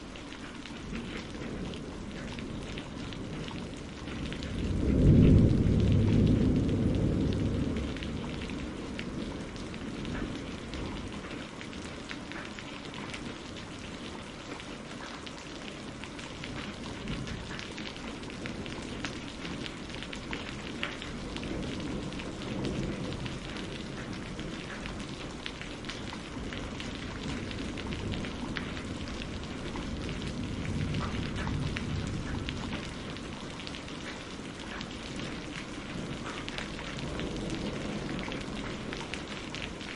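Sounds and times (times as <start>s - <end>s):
steady rain: 0.0s - 39.9s
thunder rumbling: 0.7s - 14.3s, 15.8s - 39.9s.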